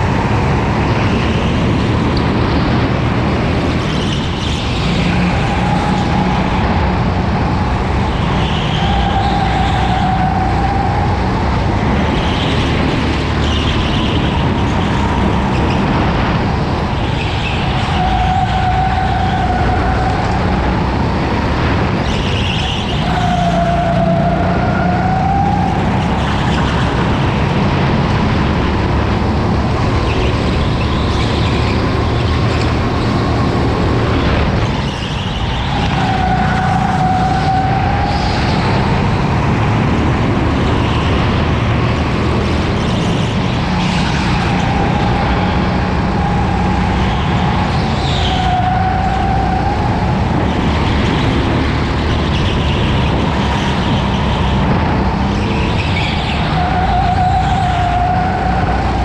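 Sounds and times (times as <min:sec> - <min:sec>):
go-kart engine rumble and whine: 0:00.0 - 0:59.0.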